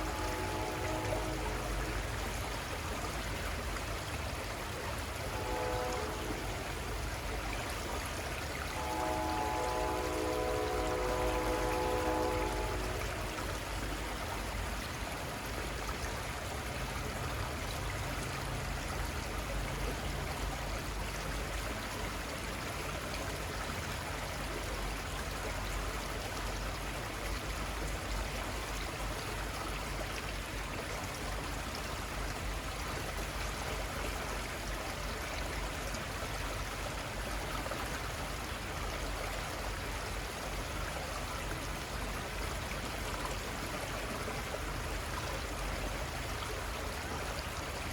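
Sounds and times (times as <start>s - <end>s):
river water flowing: 0.0s - 47.9s.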